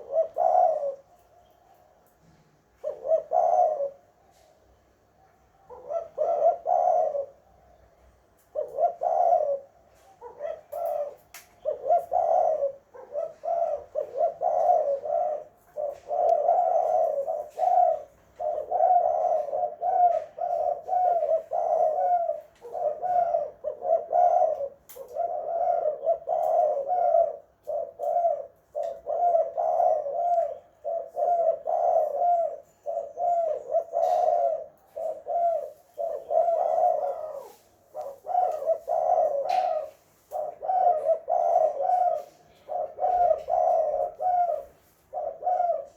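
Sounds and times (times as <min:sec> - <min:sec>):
dove cooing: 0:00.0 - 0:04.8, 0:05.4 - 0:45.9.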